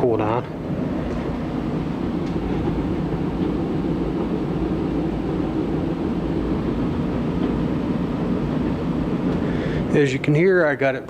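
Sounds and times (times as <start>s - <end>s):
furnace blower droning: 0.0s - 11.0s.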